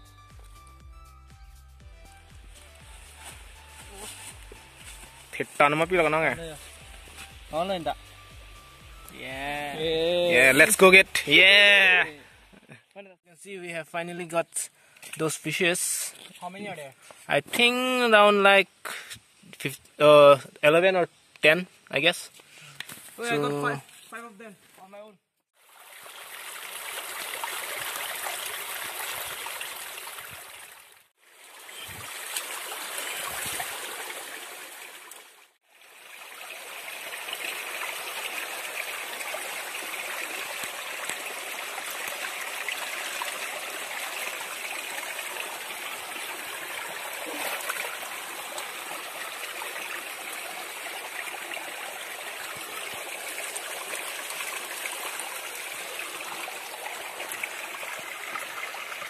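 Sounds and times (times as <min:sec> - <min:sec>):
stream running over stones: 0:02.5 - 0:12.6, 0:13.6 - 0:24.2, 0:25.5 - 0:59.0.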